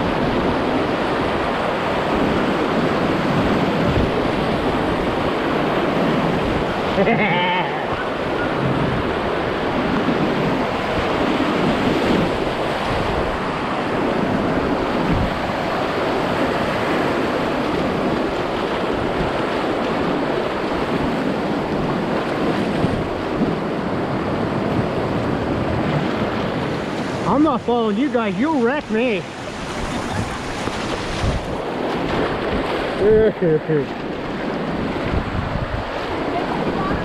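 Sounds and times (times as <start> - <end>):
whitewater rapids rushing: 0.0 - 37.0.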